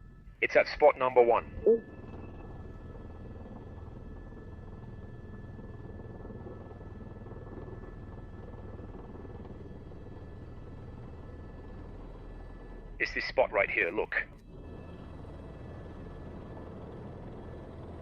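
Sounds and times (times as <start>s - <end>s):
helicopter rotor and turbine drone: 0.0s - 18.0s.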